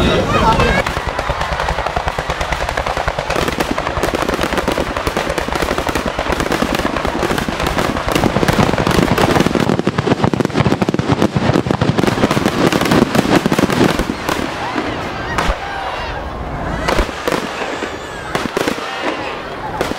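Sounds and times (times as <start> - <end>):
fireworks cracking and popping: 0.2 - 15.9, 16.7 - 19.9.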